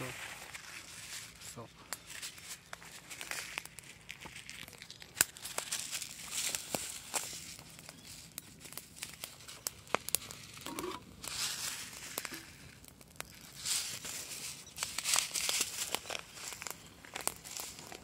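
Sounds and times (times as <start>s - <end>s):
campfire crackling: 0.0s - 18.0s
fire pops: 1.3s - 18.0s.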